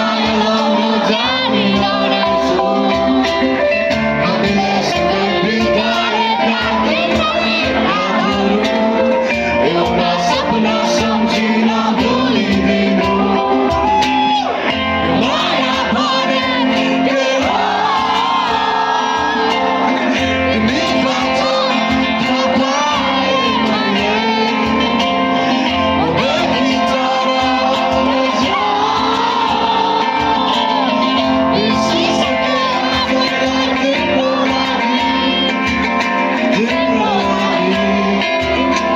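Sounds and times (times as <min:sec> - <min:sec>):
guitar: 0:00.0 - 0:38.9
person singing: 0:00.0 - 0:38.9
steady drum beat: 0:00.0 - 0:38.9.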